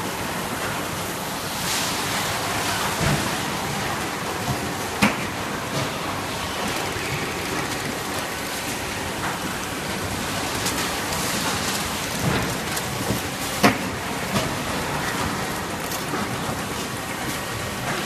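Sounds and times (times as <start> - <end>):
conveyor machinery running: 0.0 - 18.0.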